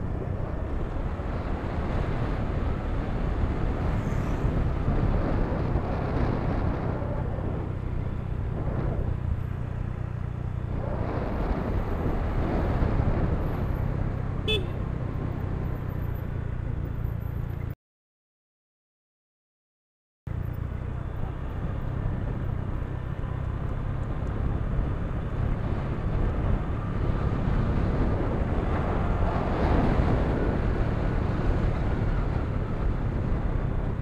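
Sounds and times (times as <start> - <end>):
wind rush on microphone: 0.0 - 16.4, 21.4 - 34.0.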